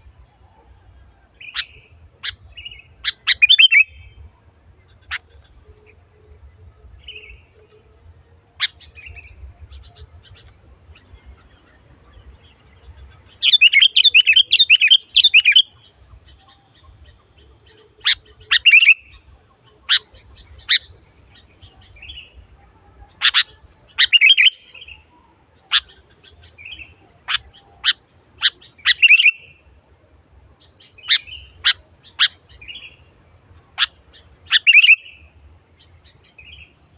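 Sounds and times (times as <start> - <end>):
bulbul singing: 1.4 - 4.2, 8.6 - 29.6, 30.6 - 36.9.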